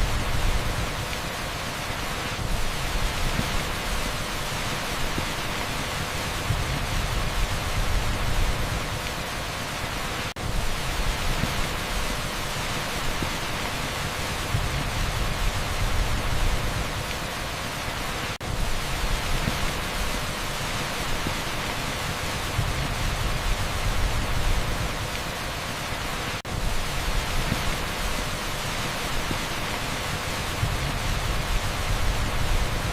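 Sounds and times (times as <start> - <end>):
heavy rain on asphalt: 0.0 - 32.9.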